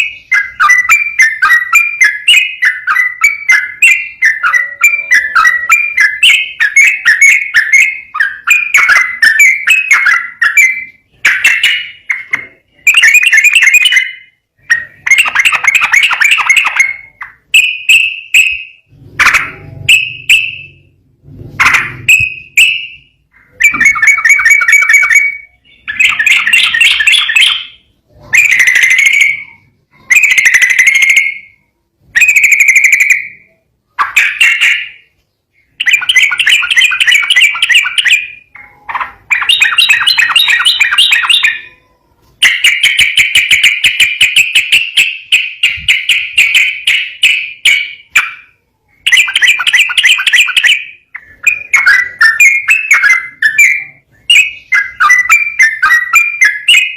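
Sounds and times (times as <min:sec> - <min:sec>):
bird singing rapid chattering notes: 0:00.0 - 0:56.9.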